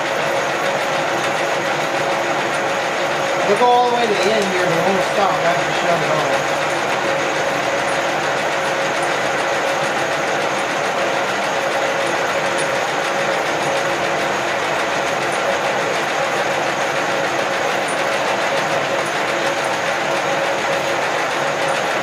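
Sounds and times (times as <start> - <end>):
milling machine running: 0.0 - 22.0
steady machine whine: 0.0 - 22.0.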